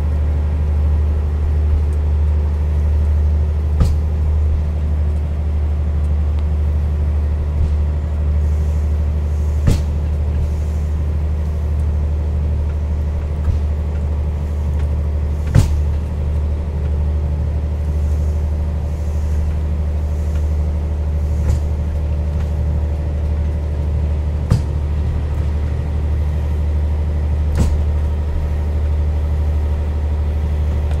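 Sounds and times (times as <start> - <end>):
train rumbling: 0.0 - 31.0
wheels clicking over rail joints: 0.0 - 31.0.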